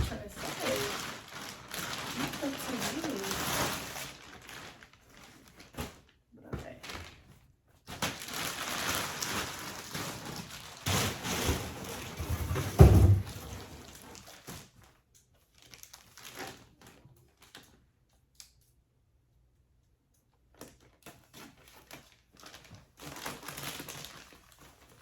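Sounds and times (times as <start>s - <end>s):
plastic packaging crinkling: 0.0s - 17.9s, 20.5s - 25.0s.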